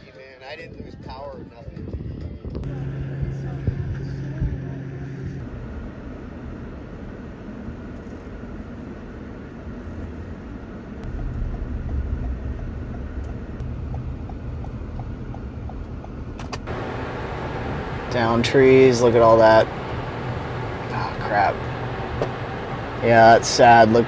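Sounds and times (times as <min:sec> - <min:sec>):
car engine and road rumble: 0:01.8 - 0:24.0.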